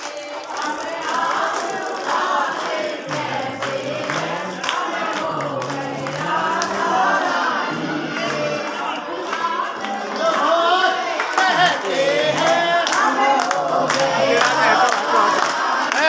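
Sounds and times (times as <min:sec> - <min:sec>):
crowd noise: 0:00.0 - 0:16.0
group singing devotional song: 0:00.0 - 0:16.0.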